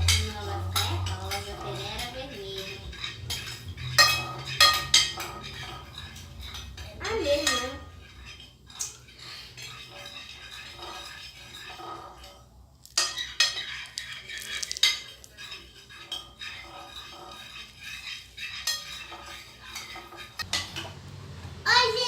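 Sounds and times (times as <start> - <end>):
utensil scraping in a pot: 0.0 - 21.1.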